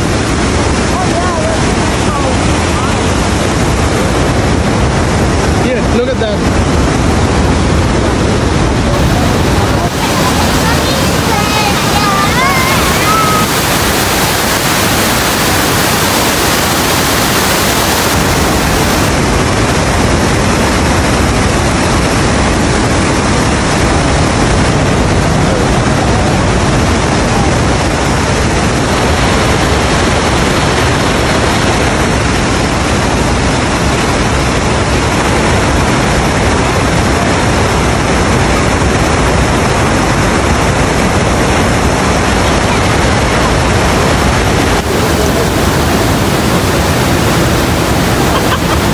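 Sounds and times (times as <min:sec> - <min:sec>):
waterfall rushing over rocks: 0:00.0 - 0:48.9.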